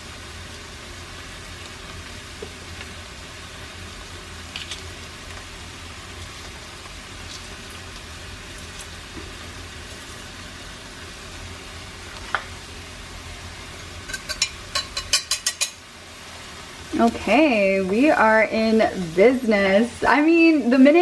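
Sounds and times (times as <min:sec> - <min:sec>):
onions sizzling in a pot: 0:00.0 - 0:21.0.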